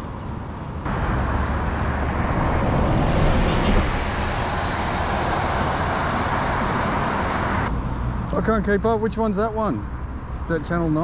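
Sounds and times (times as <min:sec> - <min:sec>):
traffic passing: 0:00.0 - 0:11.0.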